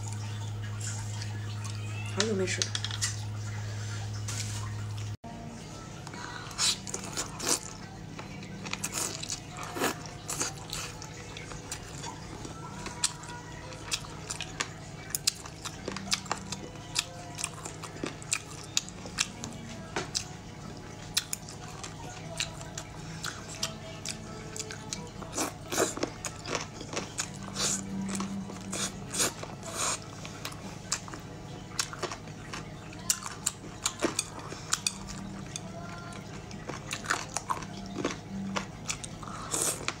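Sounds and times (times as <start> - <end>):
chewing and crunching: 6.0 - 40.0.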